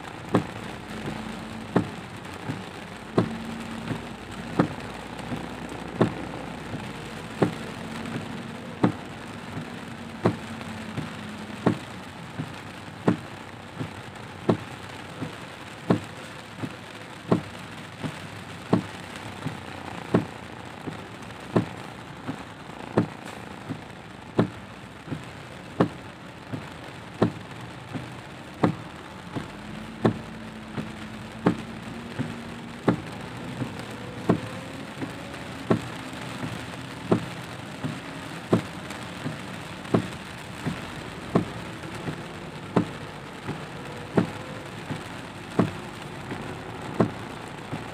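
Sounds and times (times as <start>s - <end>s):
heavy rain on car: 0.0s - 47.9s
low engine hum: 0.0s - 47.9s
windshield wipers knocking: 0.1s - 47.9s.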